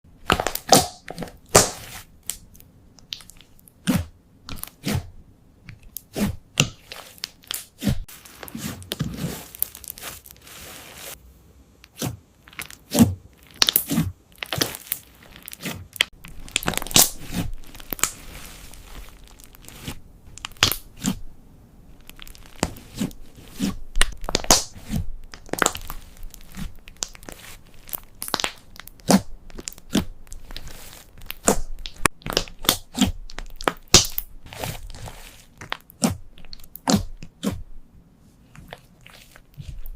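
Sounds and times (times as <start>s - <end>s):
slime crackling and squelching: 0.2s - 11.2s, 11.9s - 37.8s, 38.4s - 39.9s.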